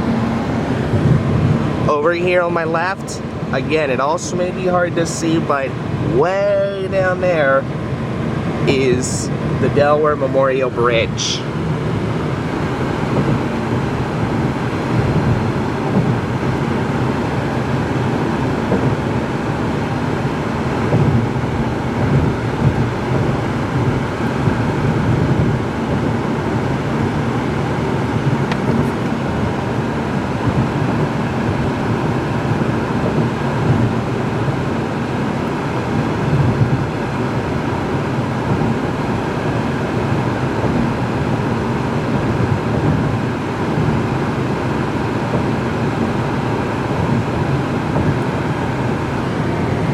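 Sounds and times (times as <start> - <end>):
car interior road and engine drone: 0.0 - 49.9.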